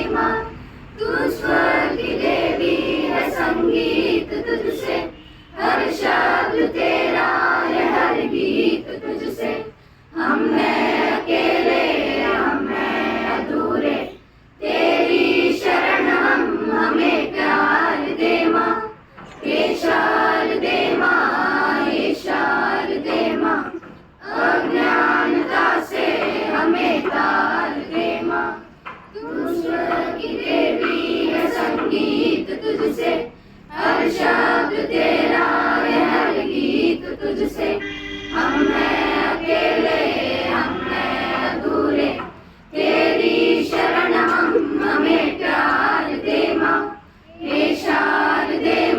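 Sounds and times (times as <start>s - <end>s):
children's choir singing: 0.0s - 48.9s.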